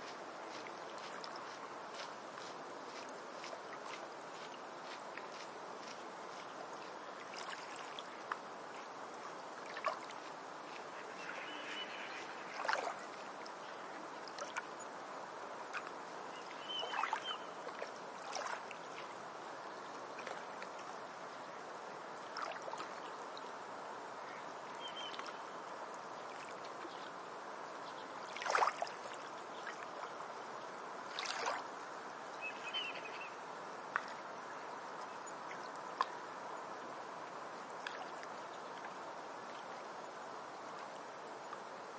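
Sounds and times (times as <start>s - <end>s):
hiss of moving water: 0.0s - 41.9s.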